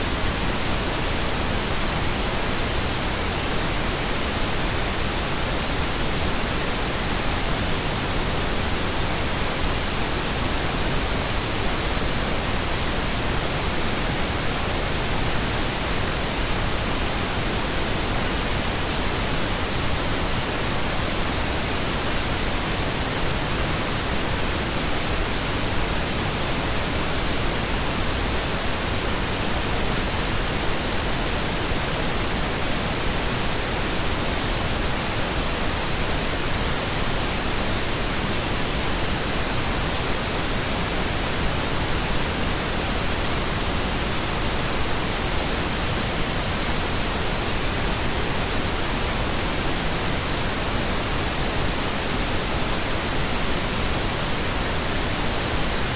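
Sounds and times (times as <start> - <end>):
steady pink noise hiss: 0.0 - 55.9.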